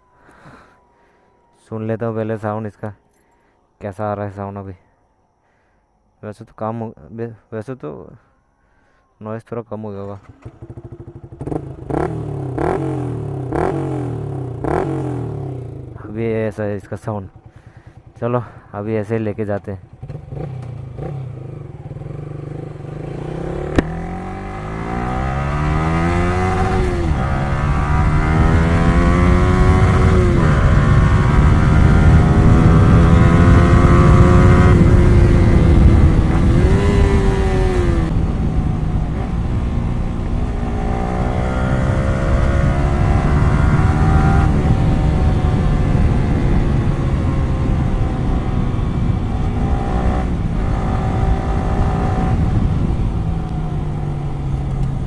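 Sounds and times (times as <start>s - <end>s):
motorcycle engine accelerating: 10.1s - 55.0s.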